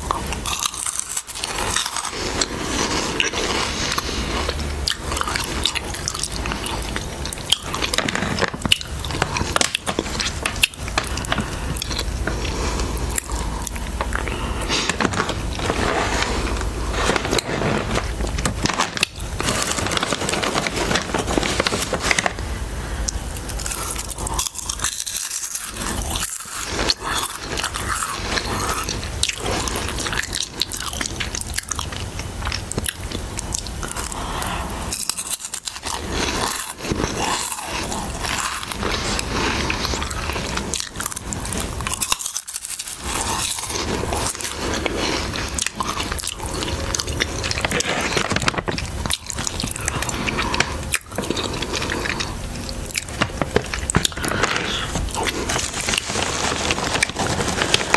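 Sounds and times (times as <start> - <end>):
crunching and chewing crisps: 0.0 - 57.9
snack bag crinkling: 0.0 - 57.9.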